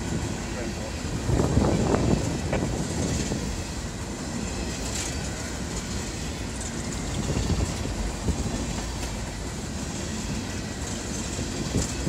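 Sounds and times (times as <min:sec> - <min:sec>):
train cars rumbling: 0:00.0 - 0:12.0.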